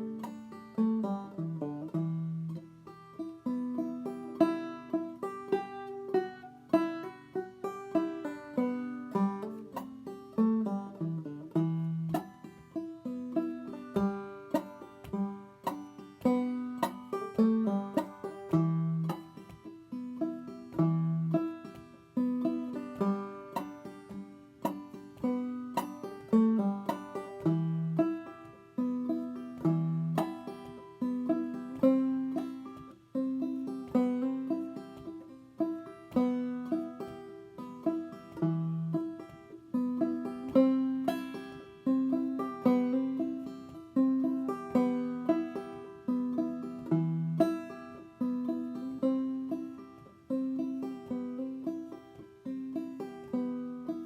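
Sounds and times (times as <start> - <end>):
banjo playing old-time tune: 0.0 - 54.0.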